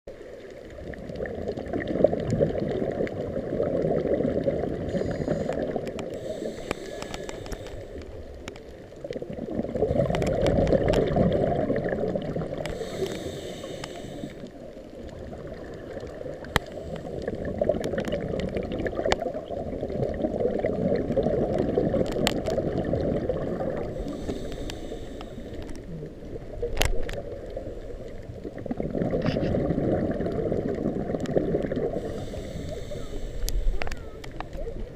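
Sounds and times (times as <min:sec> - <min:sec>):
muffled underwater rushing: 0:00.1 - 0:34.9.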